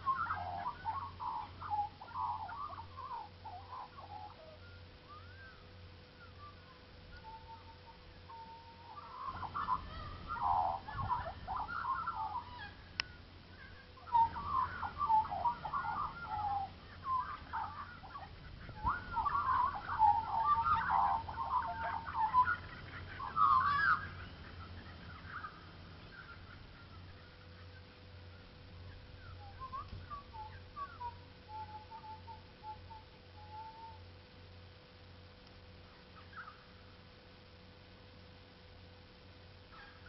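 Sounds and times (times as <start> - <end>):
birds chattering and warbling: 0.0 - 40.0.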